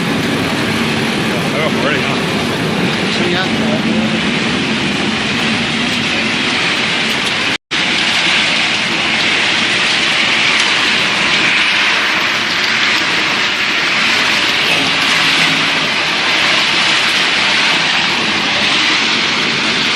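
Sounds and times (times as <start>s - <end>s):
loud steady machinery din: 0.0s - 19.9s.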